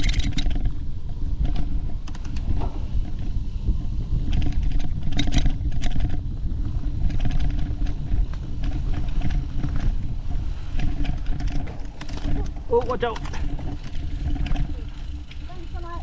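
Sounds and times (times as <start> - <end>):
bike knocking and rattling: 0.0 - 16.0
off-road motorcycle engine: 0.0 - 16.0
wind rumble on microphone: 0.0 - 16.0.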